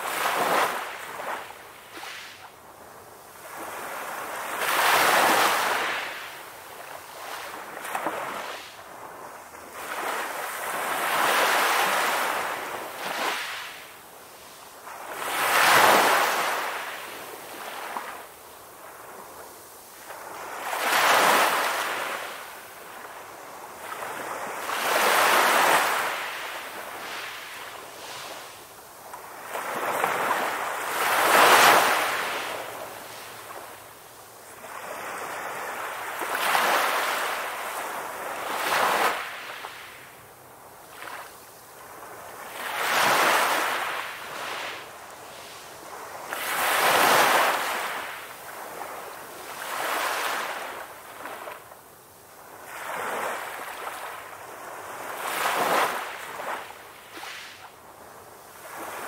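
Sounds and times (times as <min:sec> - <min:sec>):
waves breaking on shore: 0:00.0 - 0:02.6, 0:09.6 - 0:59.0.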